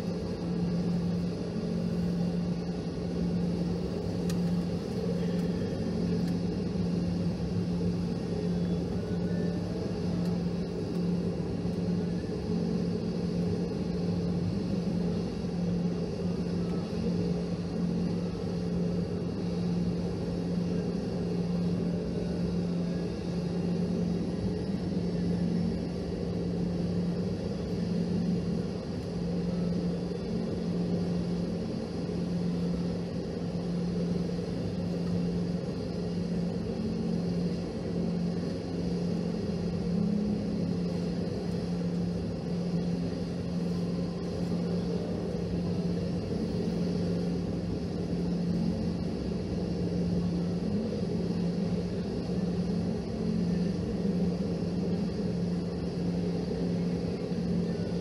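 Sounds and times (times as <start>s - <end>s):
jet engines idling cabin hum: 0.0s - 58.0s.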